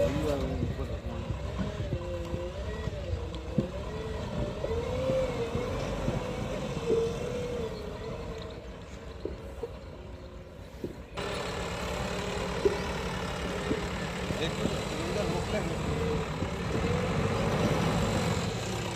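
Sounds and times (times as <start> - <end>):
diesel engine working: 0.0 - 18.9.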